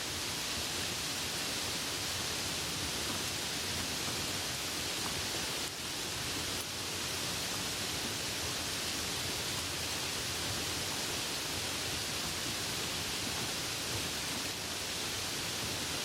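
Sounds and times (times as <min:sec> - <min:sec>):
soft rain hiss: 0:00.0 - 0:16.0.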